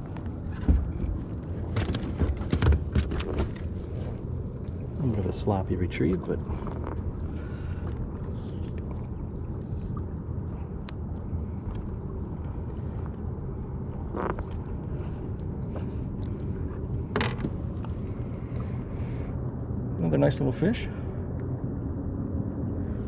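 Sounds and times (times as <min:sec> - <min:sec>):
wind and water rumble: 0:00.0 - 0:23.0.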